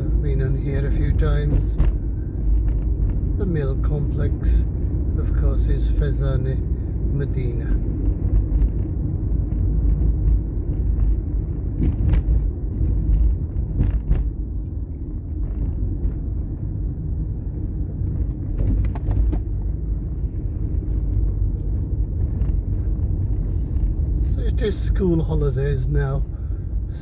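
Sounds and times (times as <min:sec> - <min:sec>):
engine and road noise: 0:00.0 - 0:27.0.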